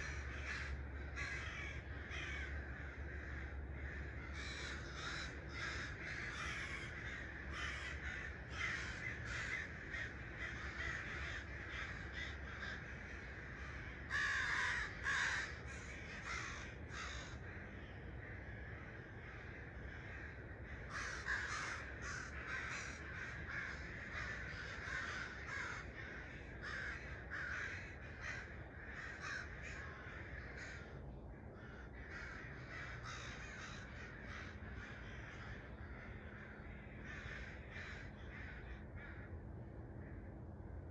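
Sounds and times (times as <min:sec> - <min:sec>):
birds calling: 0:00.0 - 0:39.4
faint low rumble: 0:00.0 - 0:40.9.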